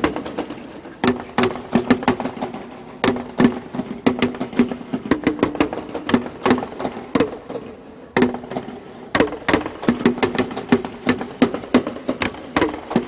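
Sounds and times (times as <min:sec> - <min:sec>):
bongos struck with drumsticks: 0:01.0 - 0:07.6, 0:08.2 - 0:13.0.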